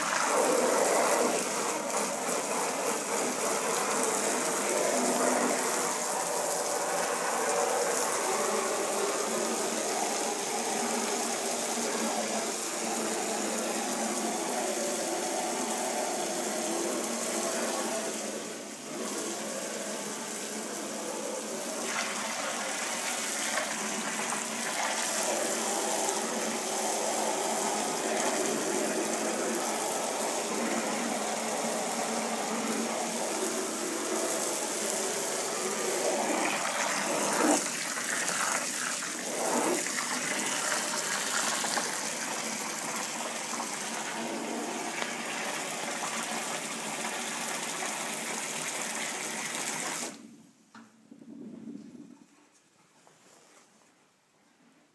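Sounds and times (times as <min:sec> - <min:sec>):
water running from heater outlet: 0:00.0 - 0:50.2.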